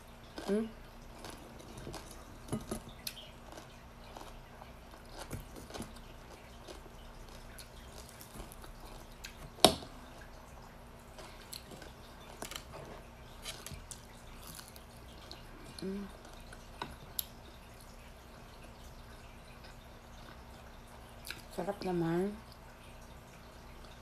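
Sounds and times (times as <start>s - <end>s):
soft wet chewing: 0.1s - 21.6s.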